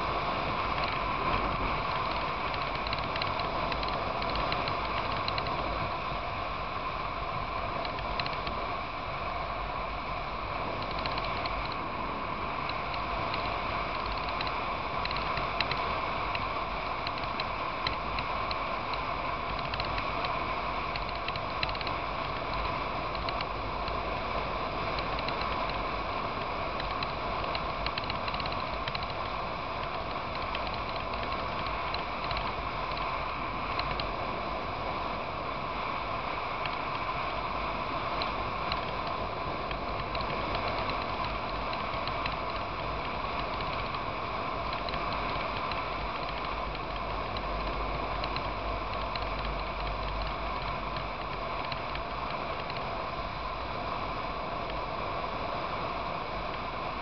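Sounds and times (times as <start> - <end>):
rattle of small ticks: 0.0 - 8.9, 10.3 - 53.2
motorcycle engine drone: 0.0 - 57.0.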